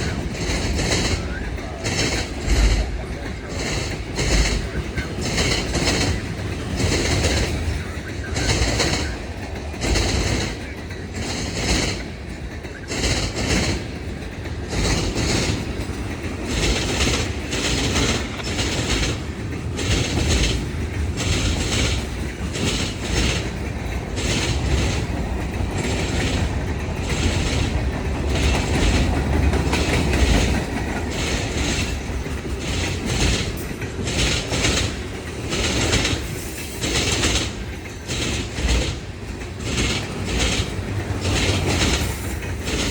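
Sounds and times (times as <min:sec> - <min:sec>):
train rumble: 0:00.0 - 0:42.9
train wheels clacking on rails: 0:00.0 - 0:42.9.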